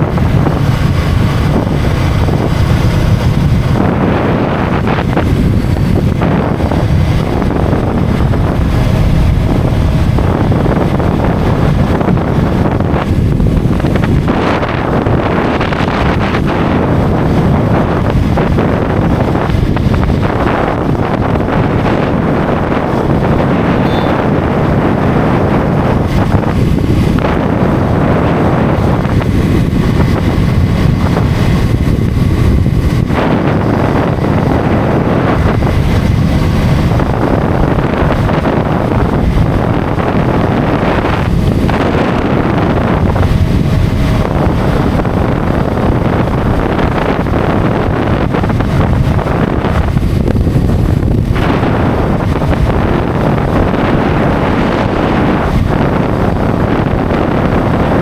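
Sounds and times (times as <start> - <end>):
motorcycle engine and road noise: 0.0 - 58.0
wind buffeting microphone: 0.0 - 58.0.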